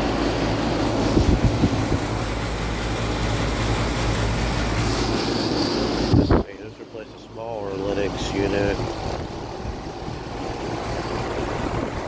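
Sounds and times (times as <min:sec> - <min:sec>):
compressor hum: 0:00.0 - 0:12.0
fan rushing: 0:00.0 - 0:12.0.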